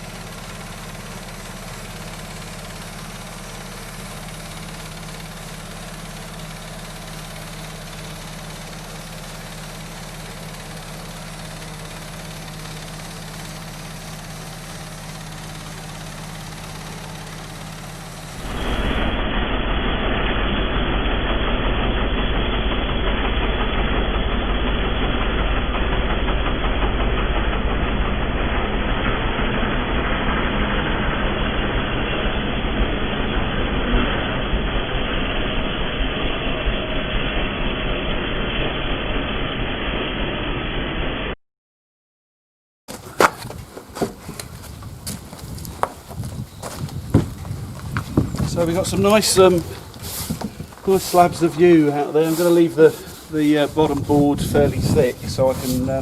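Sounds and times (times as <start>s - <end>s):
loud rough engine noise: 0.0s - 41.4s, 42.9s - 56.0s
small engine running: 0.0s - 41.4s, 42.9s - 56.0s.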